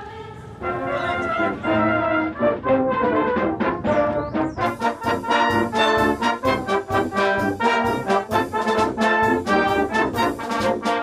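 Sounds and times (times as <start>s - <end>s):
brass band playing: 0.6s - 11.0s.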